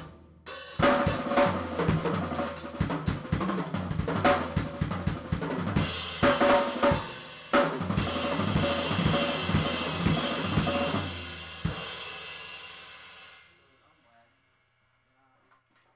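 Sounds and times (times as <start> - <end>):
drum kit fast fills: 0.0 - 13.4.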